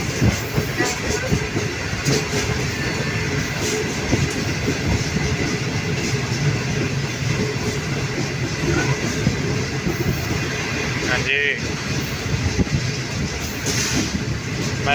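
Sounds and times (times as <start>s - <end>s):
train running rumble: 0.0s - 14.9s.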